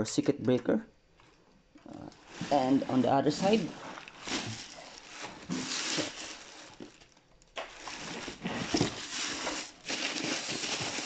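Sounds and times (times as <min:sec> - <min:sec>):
plastic wrapping crinkling: 0:02.1 - 0:11.0.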